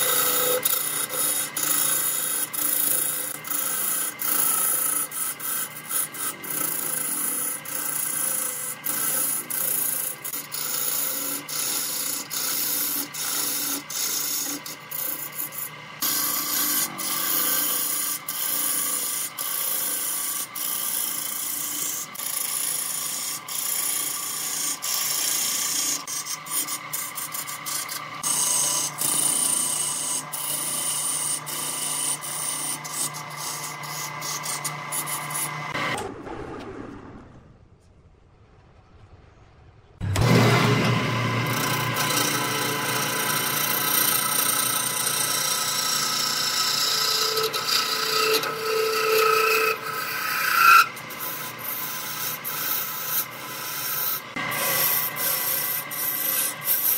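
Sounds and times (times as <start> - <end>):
electric motor humming: 0.0 - 36.0, 40.0 - 56.9
lathe tool scraping wood: 0.0 - 36.0, 40.0 - 56.9.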